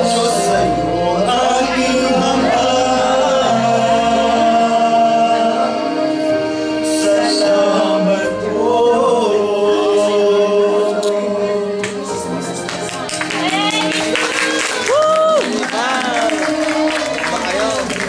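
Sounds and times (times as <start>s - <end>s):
group singing together: 0.0s - 12.6s, 14.2s - 18.0s.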